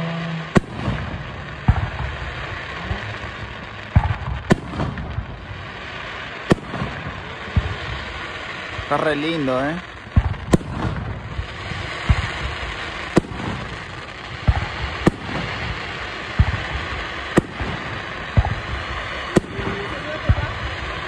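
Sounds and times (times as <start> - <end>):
background noise: 0.0 - 21.0
fireworks bursting: 0.0 - 21.0.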